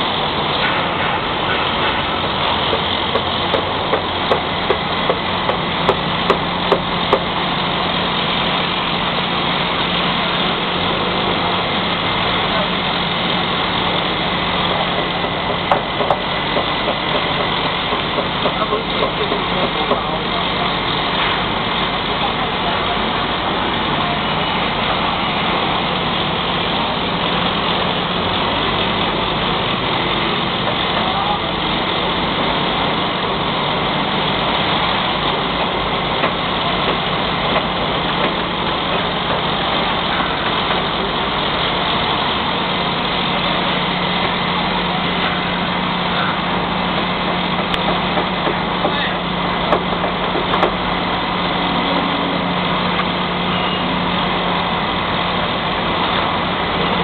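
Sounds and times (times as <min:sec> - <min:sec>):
crane diesel engine droning: 0:00.0 - 0:57.0.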